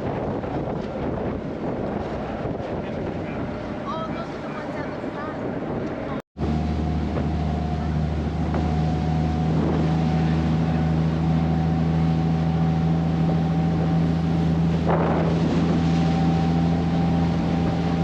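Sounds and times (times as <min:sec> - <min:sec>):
boat engine humming: 0:00.0 - 0:18.0
wind buffeting microphone: 0:00.0 - 0:18.0.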